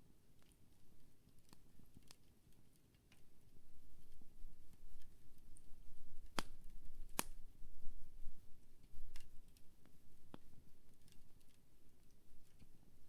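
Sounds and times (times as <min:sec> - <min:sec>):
campfire crackling: 0:01.3 - 0:12.8.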